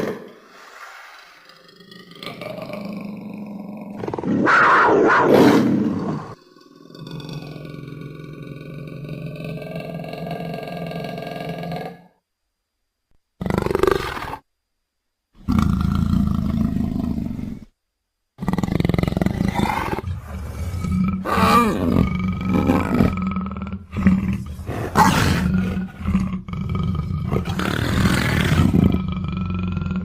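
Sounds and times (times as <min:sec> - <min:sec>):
leopard roaring and growling: 0:00.0 - 0:12.1, 0:13.4 - 0:14.4, 0:18.4 - 0:30.0.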